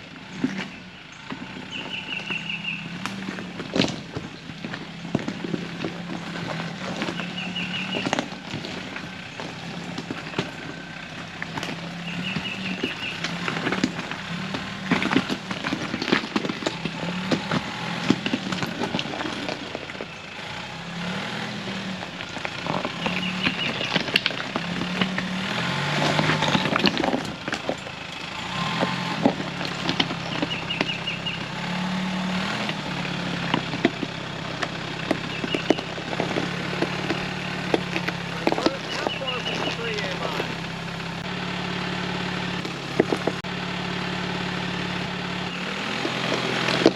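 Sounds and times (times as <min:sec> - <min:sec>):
engine running at low revs: 0:00.0 - 0:46.9
rocks cracking under tyres: 0:00.0 - 0:46.9.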